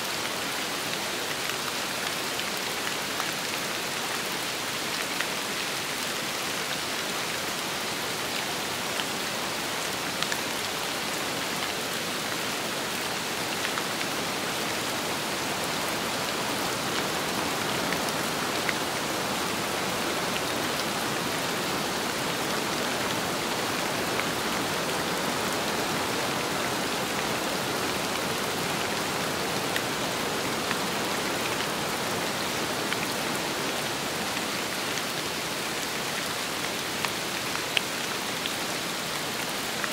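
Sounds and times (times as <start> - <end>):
steady rain hiss: 0.0 - 39.9
wind: 0.0 - 39.9.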